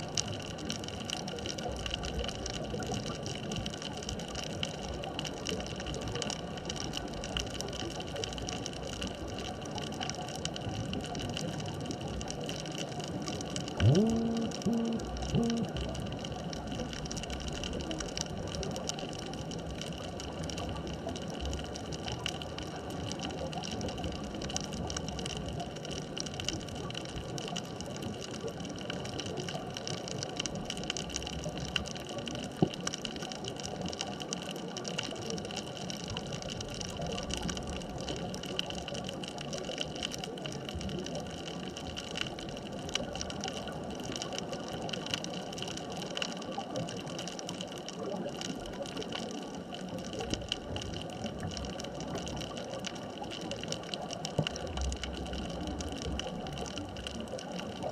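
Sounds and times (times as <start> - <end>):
dense crackle of tiny clicks: 0.0 - 57.9.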